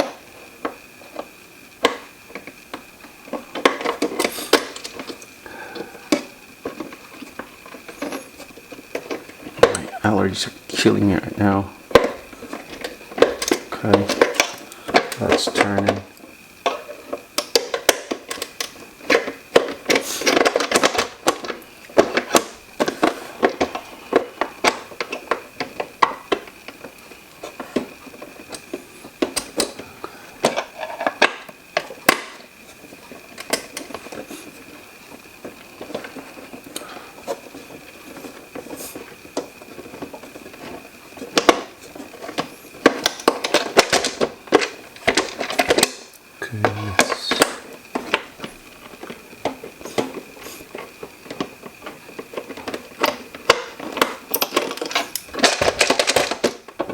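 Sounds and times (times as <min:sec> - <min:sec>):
plastic parts clicking and knocking: 0:00.0 - 0:09.9, 0:11.9 - 0:46.3, 0:47.0 - 0:56.9.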